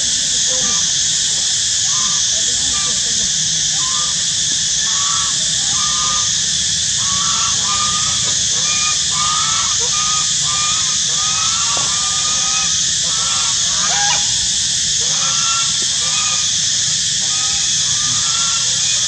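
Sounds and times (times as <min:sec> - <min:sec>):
high-pitched hiss: 0:00.0 - 0:19.0
geese honking: 0:03.7 - 0:19.0.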